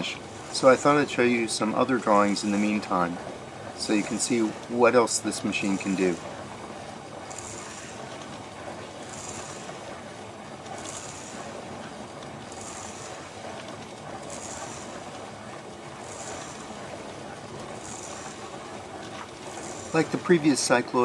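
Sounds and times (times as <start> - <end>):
drawing machine gears whirring: 0.0 - 21.0.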